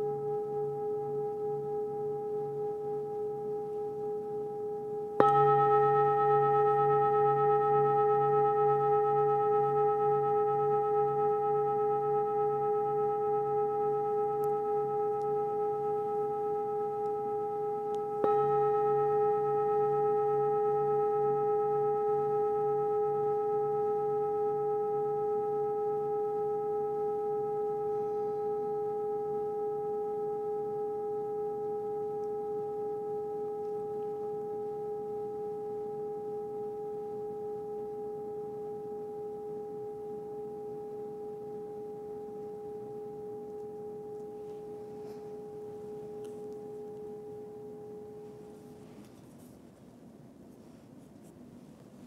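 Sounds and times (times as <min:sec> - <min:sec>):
meditation bowl bell ringing: 0:00.0 - 0:49.6.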